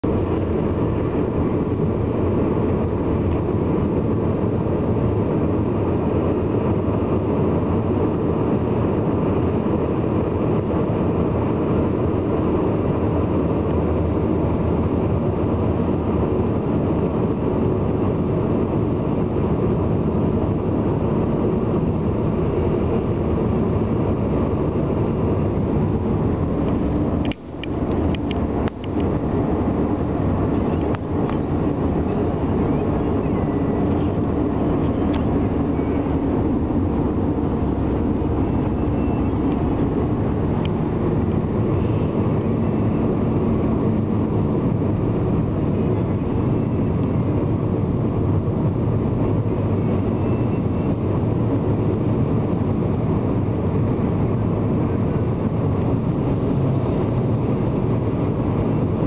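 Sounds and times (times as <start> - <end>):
road and engine noise in car: 0.0 - 59.0.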